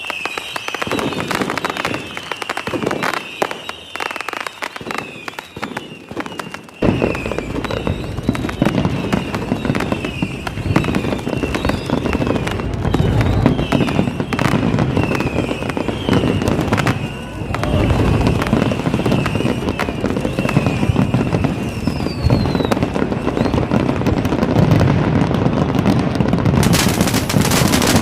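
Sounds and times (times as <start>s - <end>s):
fireworks booming: 0.0s - 28.0s
fireworks crackling: 0.0s - 28.0s
fireworks whistling: 0.0s - 28.0s.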